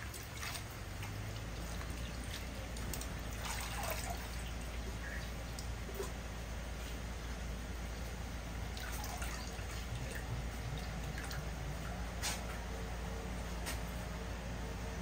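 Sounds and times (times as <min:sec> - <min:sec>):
water trickling and dripping: 0:00.0 - 0:12.7
low hum: 0:00.0 - 0:15.0.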